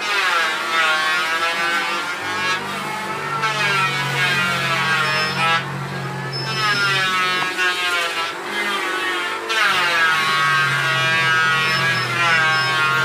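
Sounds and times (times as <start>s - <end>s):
mortising machine motor whining: 0.0s - 13.0s.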